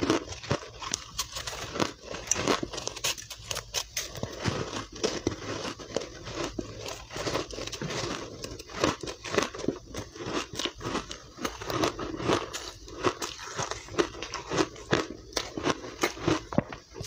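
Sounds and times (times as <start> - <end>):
ice crunching while chewed: 0.0 - 17.0.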